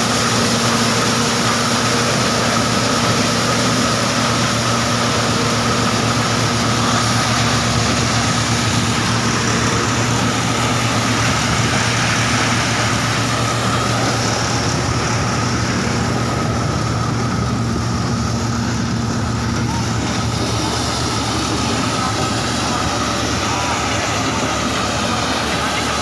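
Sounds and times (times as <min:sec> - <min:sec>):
maize thresher droning: 0:00.0 - 0:26.0.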